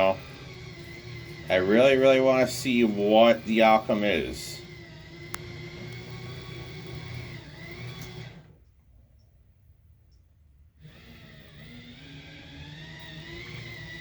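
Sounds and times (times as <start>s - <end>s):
washing machine motor humming: 0.0s - 8.6s, 10.8s - 14.0s.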